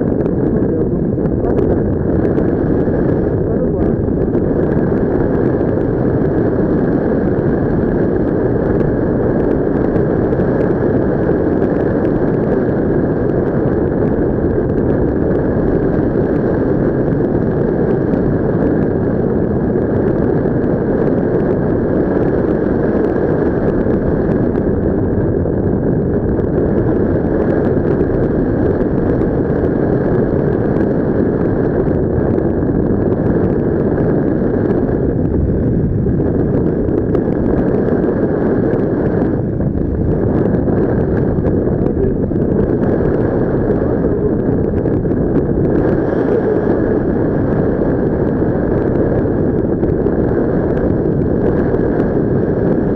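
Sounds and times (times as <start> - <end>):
wind rushing on microphone: 0.0 - 52.9.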